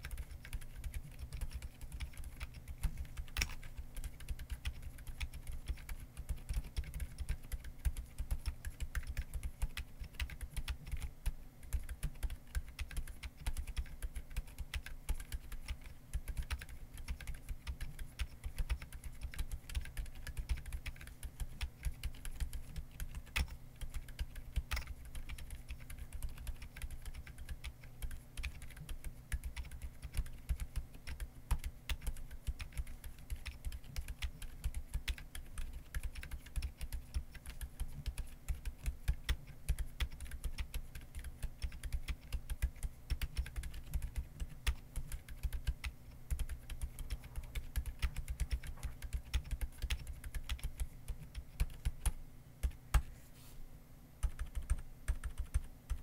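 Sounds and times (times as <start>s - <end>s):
soft keyboard typing: 0.0s - 53.1s, 54.2s - 56.0s.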